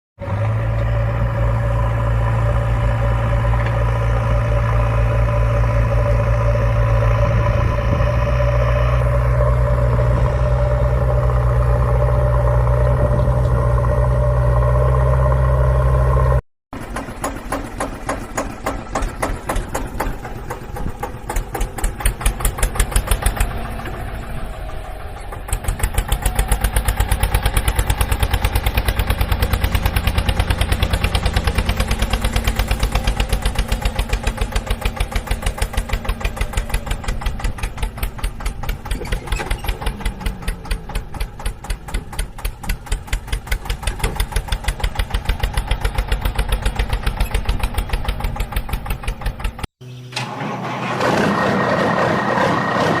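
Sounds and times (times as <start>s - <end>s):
engine chugging: 0.2s - 53.0s.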